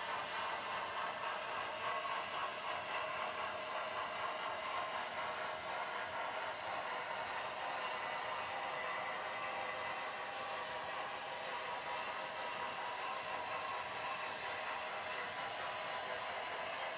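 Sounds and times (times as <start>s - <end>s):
model train rolling on track: 0.0s - 16.9s.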